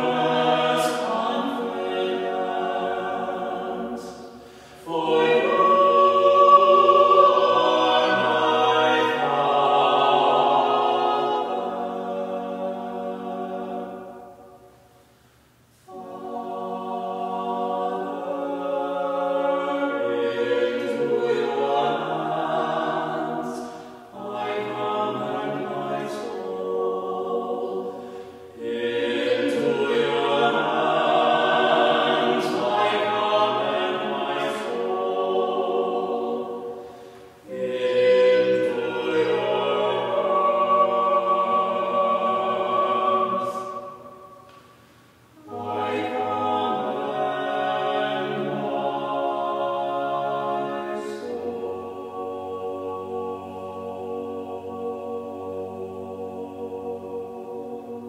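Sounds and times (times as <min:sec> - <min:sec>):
vocal ensemble singing in harmony: 0:00.0 - 0:58.0.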